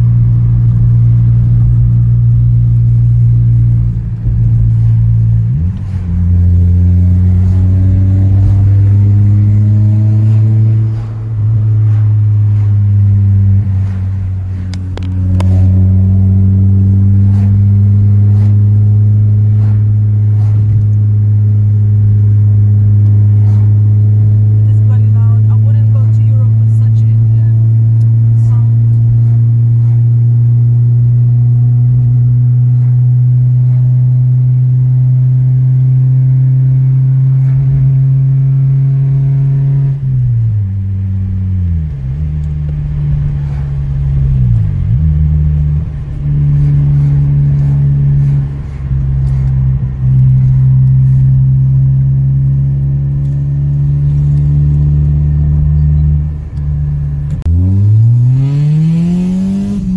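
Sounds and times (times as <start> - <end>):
car engine droning in cabin: 0.0 - 59.9
engine revving up: 0.0 - 59.9.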